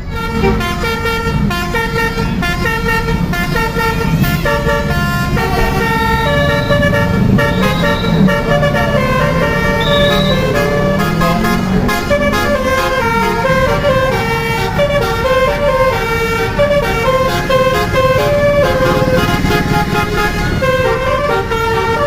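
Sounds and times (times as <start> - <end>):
bus horn melody: 0.0 - 22.0
low engine rumble: 0.0 - 22.0.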